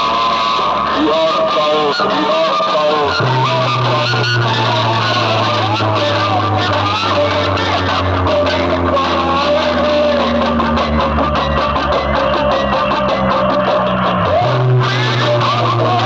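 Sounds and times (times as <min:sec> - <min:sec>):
loud music with guitar: 0:00.0 - 0:16.0
deep held bass: 0:02.3 - 0:16.0.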